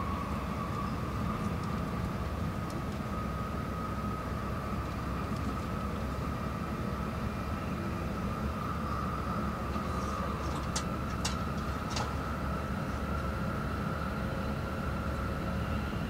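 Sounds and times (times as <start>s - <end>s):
steady high whine: 0.0s - 16.0s
train interior low rumble: 0.0s - 16.0s.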